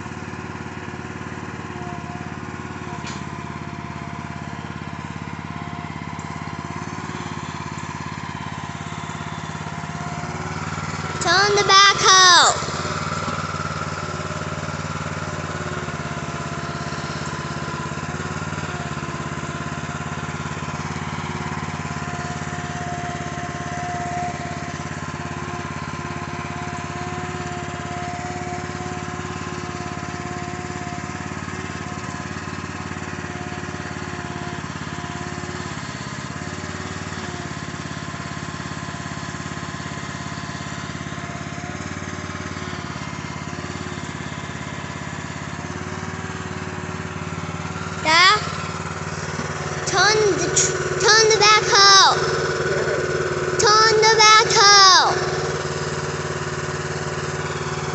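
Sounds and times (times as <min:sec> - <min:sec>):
small gasoline engine running: 0:00.0 - 0:57.9
hydraulic whine: 0:01.3 - 0:57.9.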